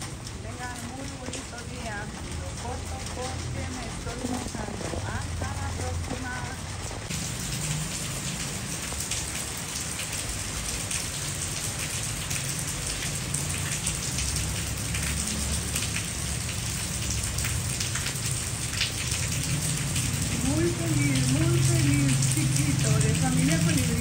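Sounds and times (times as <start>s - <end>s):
raindrops ticking close by: 0.0s - 24.0s
steady rainfall: 0.0s - 24.0s.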